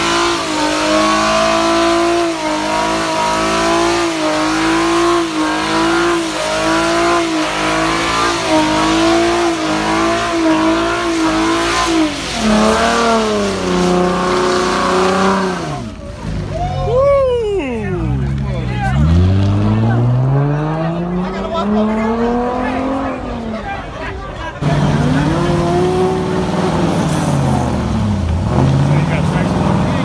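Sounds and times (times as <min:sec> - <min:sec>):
car engine revving high: 0:00.0 - 0:16.6, 0:17.9 - 0:23.6, 0:24.6 - 0:30.0.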